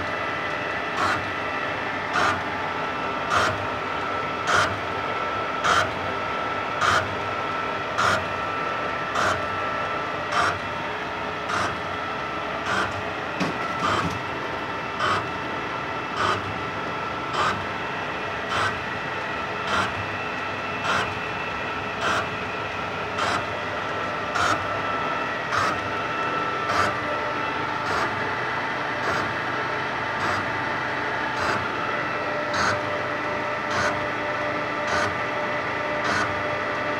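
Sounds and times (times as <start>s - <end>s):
lathe gear whine: 0.0s - 36.9s.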